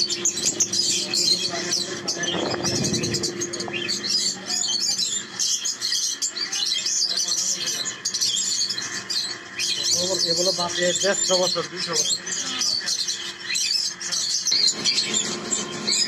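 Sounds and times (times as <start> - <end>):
many birds chirping: 0.0 - 16.0.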